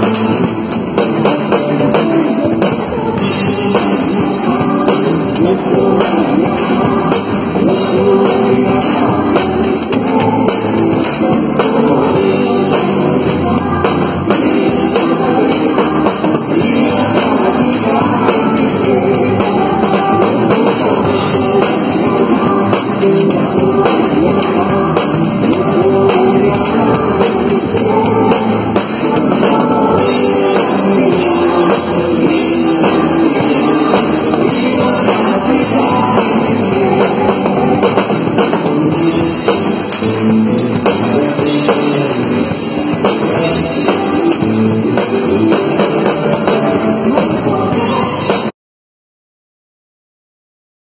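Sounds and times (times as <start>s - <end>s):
drum kit: 0.0s - 48.5s
electric guitar: 0.0s - 48.5s
person singing: 0.0s - 48.5s.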